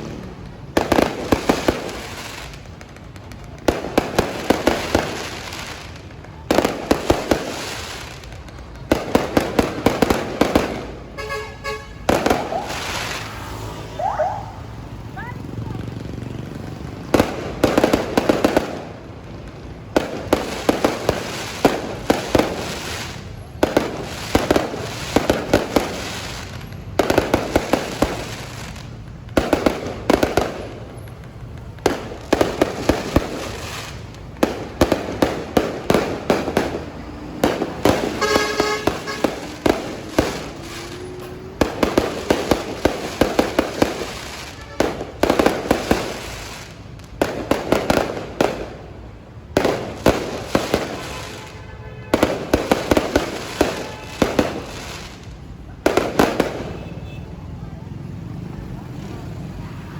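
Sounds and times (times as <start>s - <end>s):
firework bangs: 0.0s - 57.9s
firework crackling: 0.0s - 59.9s.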